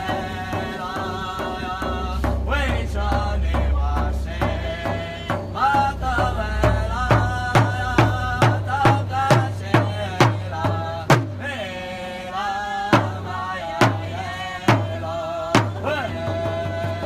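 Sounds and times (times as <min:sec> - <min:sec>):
drum beating: 0:00.0 - 0:11.5, 0:12.9 - 0:17.0
chant-like singing: 0:00.0 - 0:17.0.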